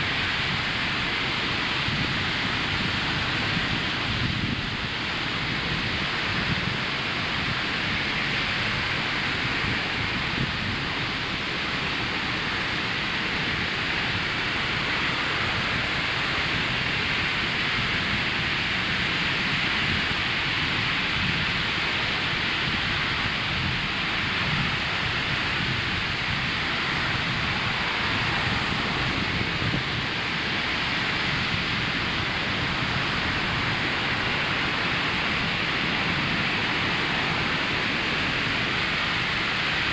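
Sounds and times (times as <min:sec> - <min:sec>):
ocean surf roaring on beach: 0:00.0 - 0:39.9.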